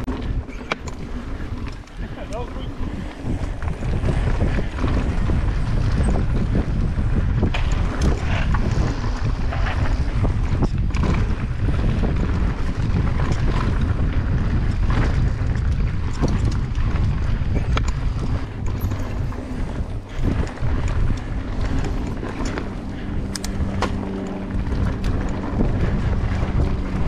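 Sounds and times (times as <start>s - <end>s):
bike clicks and rattles: 0.0s - 27.0s
tyres rumbling on dirt: 0.0s - 27.0s
wind buffeting microphone: 0.0s - 27.0s.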